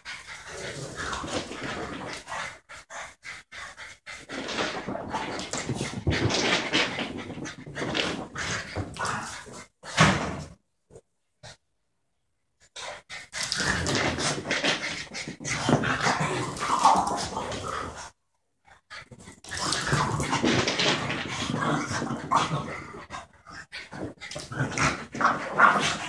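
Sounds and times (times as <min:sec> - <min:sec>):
dogs playing noises: 0:00.0 - 0:10.5, 0:12.7 - 0:18.1, 0:18.7 - 0:26.0.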